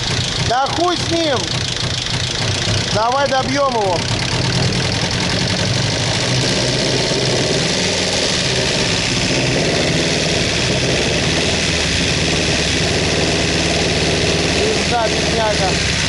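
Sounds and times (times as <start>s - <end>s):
car engine knocking and misfiring: 0.0s - 16.0s.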